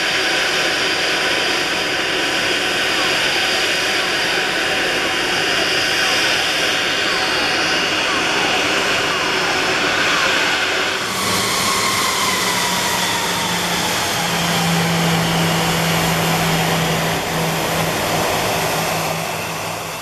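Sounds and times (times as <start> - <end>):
airliner taxiing past: 0.0 - 20.0
jet engines running: 0.0 - 20.0.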